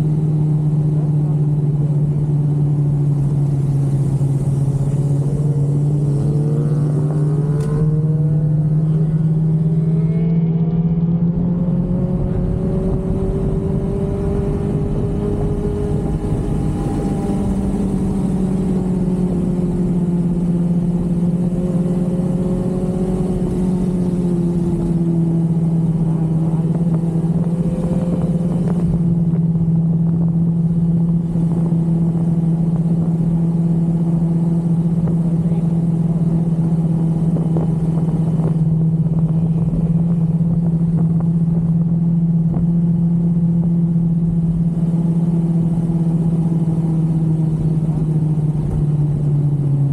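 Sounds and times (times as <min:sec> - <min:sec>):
motorbike engine revving and cruising: 0:00.0 - 0:49.9.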